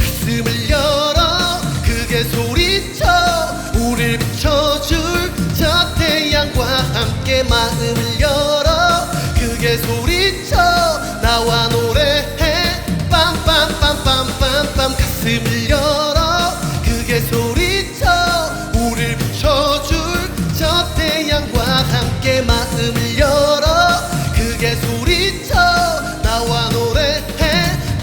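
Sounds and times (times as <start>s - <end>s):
upbeat pop-rock band music: 0.0s - 28.0s.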